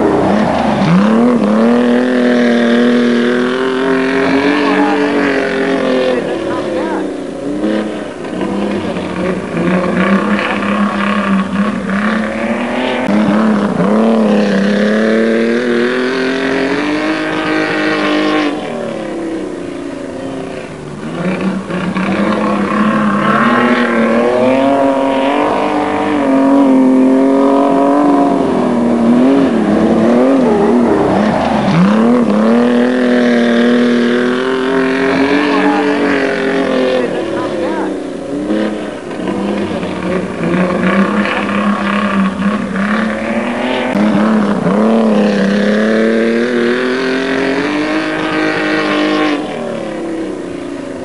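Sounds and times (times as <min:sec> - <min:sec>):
racing car engines revving: 0:00.0 - 0:51.0.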